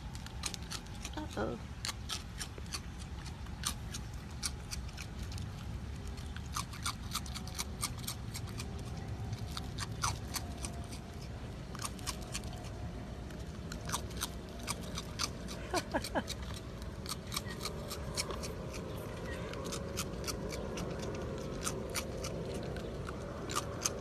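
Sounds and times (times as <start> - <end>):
animal chewing crunchy cereal: 0.0 - 24.0.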